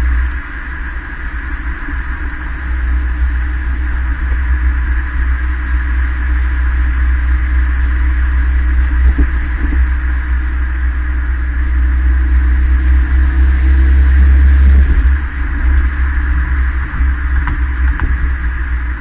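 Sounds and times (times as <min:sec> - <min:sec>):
car engine low rumble: 0:00.0 - 0:19.0
road noise: 0:00.0 - 0:19.0.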